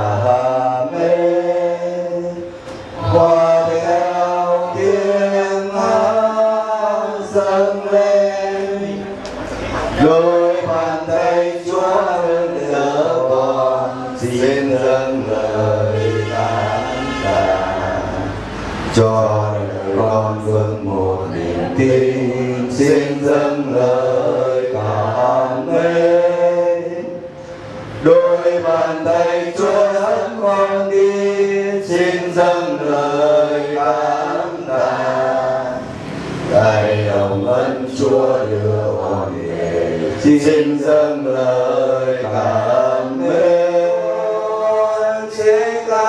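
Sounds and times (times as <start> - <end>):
group singing a hymn: 0.0 - 46.0.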